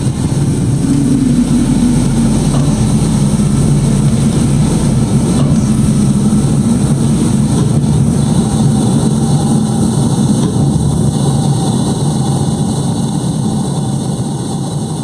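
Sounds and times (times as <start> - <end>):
rocket engine roar: 0.0 - 15.0.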